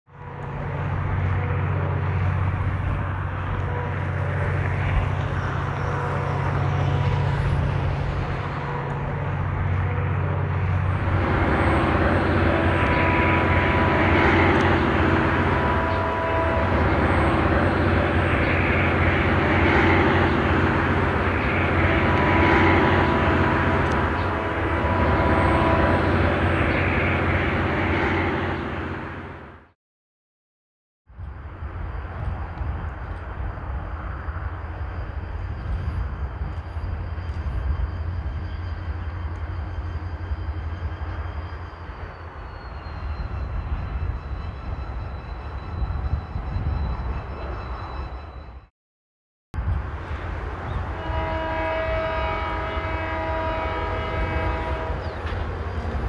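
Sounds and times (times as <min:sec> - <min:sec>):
diesel locomotive engine drone: 0:00.1 - 0:29.8, 0:31.1 - 0:48.7, 0:49.6 - 0:56.0.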